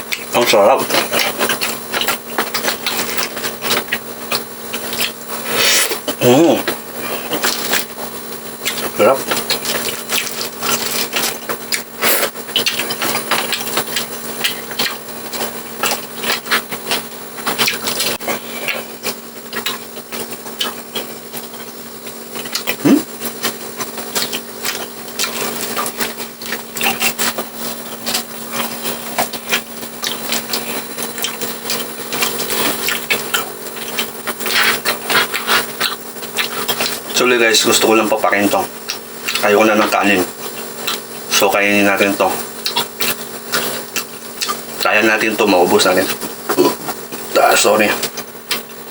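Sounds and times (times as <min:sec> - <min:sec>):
chewing and crunching food: 0:00.0 - 0:48.9.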